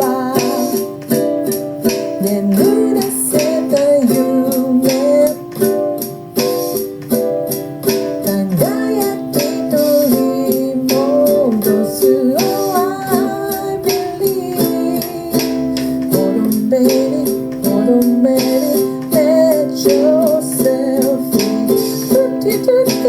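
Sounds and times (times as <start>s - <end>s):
woman singing: 0.0s - 1.2s, 2.1s - 5.8s, 8.2s - 23.0s
ukulele strumming: 0.0s - 23.0s.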